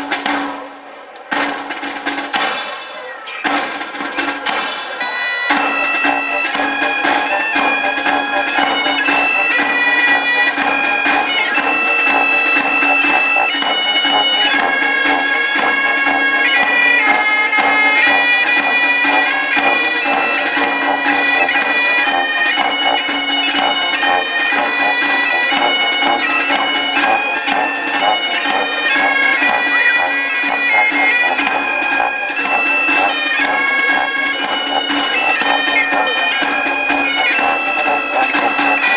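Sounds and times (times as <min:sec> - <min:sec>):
bagpipes playing a tune: 0:05.0 - 0:38.9.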